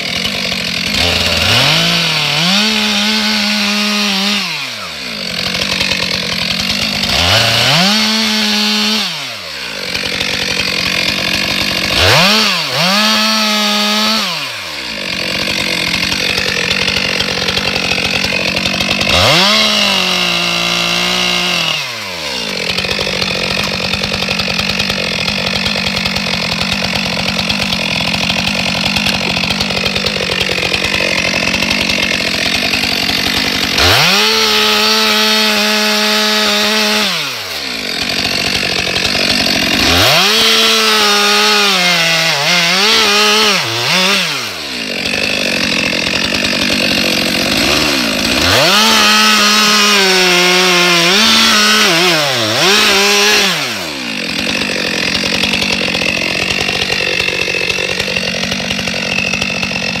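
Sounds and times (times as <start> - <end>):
chainsaw cutting log: 0.0 - 60.0.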